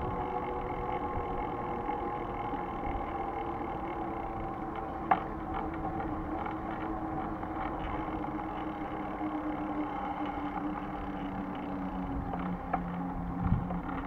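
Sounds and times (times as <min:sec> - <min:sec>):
vehicle mechanical hum: 0:00.0 - 0:14.0.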